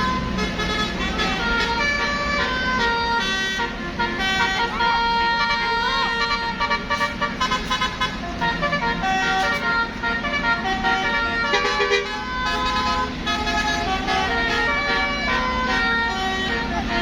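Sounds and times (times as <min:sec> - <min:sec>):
bus engine running: 0:00.0 - 0:17.0
bus multi-tone horn tune: 0:00.0 - 0:17.0.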